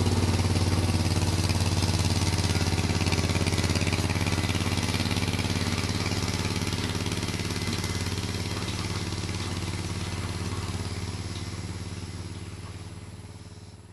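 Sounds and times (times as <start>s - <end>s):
tractor engine running: 0.0s - 13.9s.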